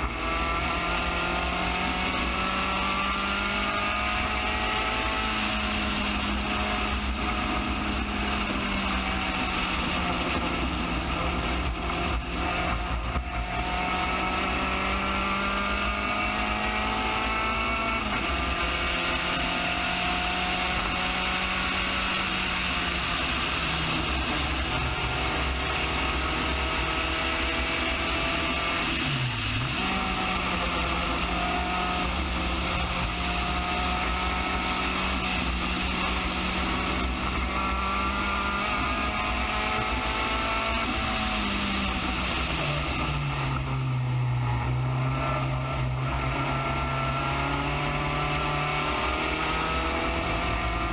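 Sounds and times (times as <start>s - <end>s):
race car engine at full throttle: 0.0s - 50.9s.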